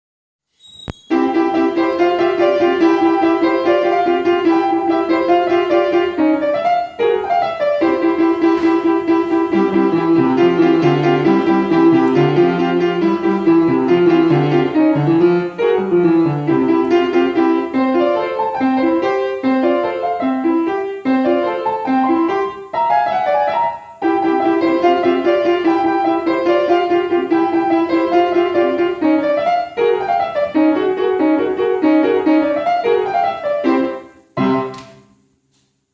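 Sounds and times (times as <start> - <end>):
lively piano tune: 1.0 - 35.2.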